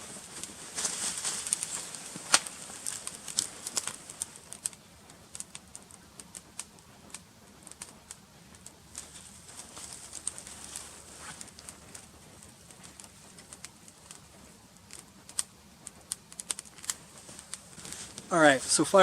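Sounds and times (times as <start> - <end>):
campfire crackling: 0.0 - 19.0
faint hiss: 0.0 - 19.0.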